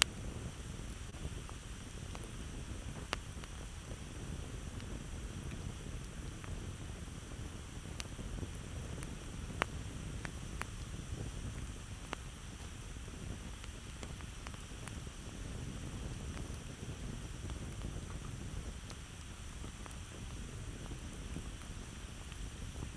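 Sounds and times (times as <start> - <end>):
campfire crackling and popping: 0.0 - 22.9.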